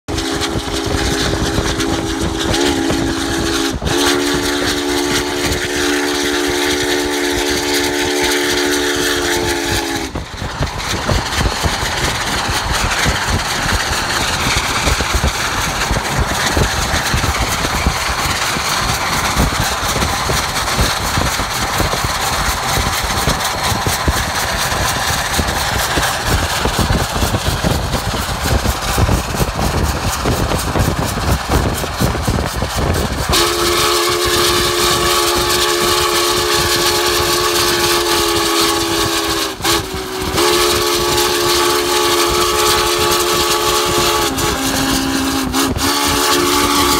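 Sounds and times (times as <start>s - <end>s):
rush of running train: 0.0s - 46.9s
steam whistle blowing: 0.1s - 15.0s, 15.8s - 46.9s
wind noise: 0.1s - 46.9s.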